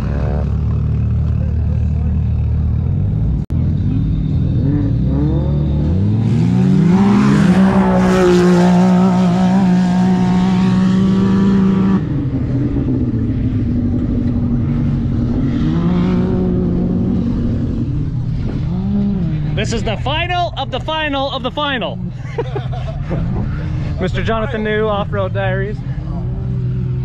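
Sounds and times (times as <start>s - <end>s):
utility vehicle engines revving: 0.0s - 27.0s.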